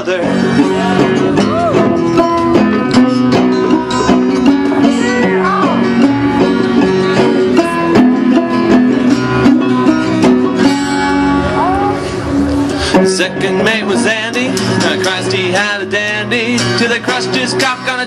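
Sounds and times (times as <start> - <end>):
plucked string instruments: 0.0 - 18.0.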